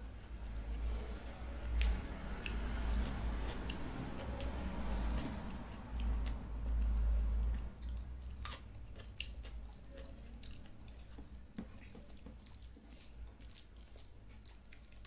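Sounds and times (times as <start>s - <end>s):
chewing food with wet clicks: 1.5s - 15.0s.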